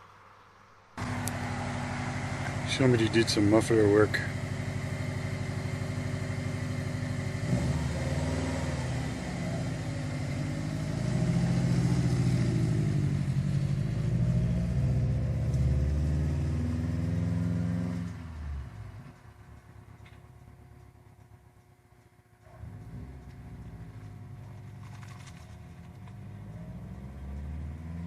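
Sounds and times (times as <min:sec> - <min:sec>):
car engine revving without muffler: 0:01.0 - 0:19.1, 0:22.4 - 0:25.0, 0:25.8 - 0:28.0.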